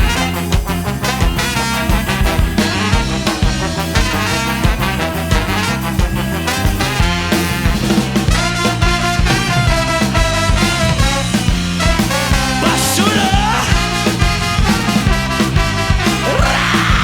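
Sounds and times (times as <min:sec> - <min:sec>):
drum beat: 0:00.0 - 0:17.0
electric bass: 0:00.0 - 0:17.0
horn section playing: 0:00.0 - 0:17.0.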